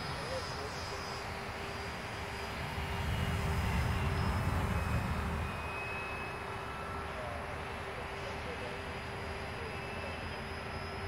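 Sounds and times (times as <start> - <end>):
model plane motor drone: 0.0 - 11.0.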